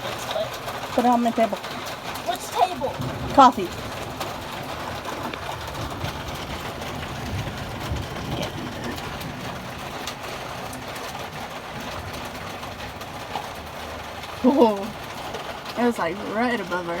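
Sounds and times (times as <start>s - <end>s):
heavy rain: 0.0s - 17.0s
wind: 0.0s - 17.0s.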